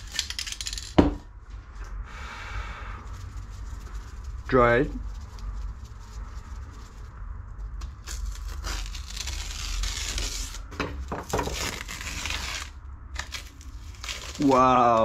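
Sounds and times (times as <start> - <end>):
paper peeling and tearing: 0.0 - 1.0, 3.1 - 15.0.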